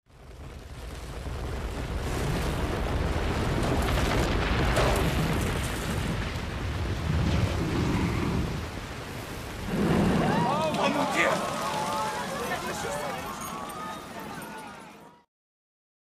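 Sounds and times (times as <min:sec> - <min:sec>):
clatter of crackles: 0:00.1 - 0:08.4, 0:09.6 - 0:14.9
deep rumble of collapsing building: 0:00.1 - 0:14.8.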